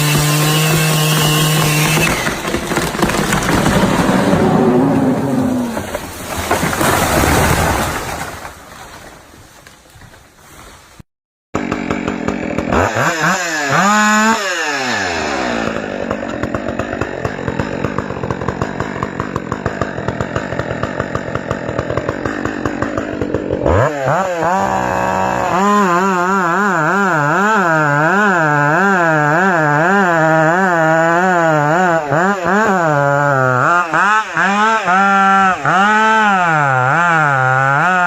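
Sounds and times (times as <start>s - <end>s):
chainsaw cutting wood: 0.0s - 9.8s, 11.6s - 38.0s.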